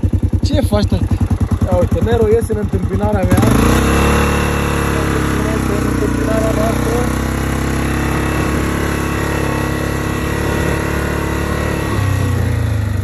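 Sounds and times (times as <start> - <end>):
quad bike engine running: 0.0 - 13.0
quad riding through tall grass: 0.0 - 13.0.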